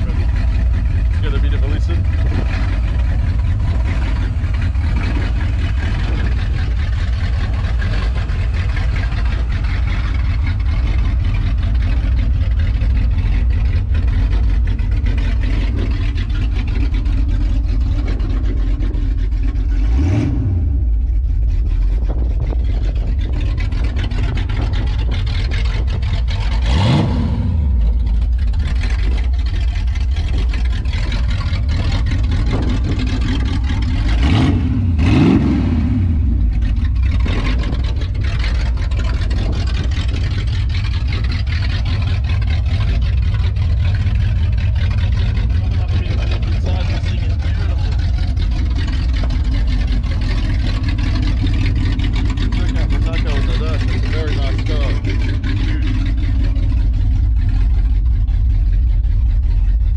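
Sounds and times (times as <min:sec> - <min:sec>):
open-pipe engine idling and revving: 0:00.0 - 0:59.9.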